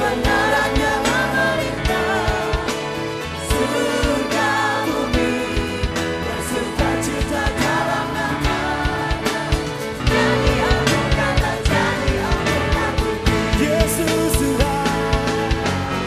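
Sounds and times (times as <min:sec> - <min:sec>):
band playing upbeat song: 0:00.0 - 0:16.0
voices singing melody: 0:00.0 - 0:16.0.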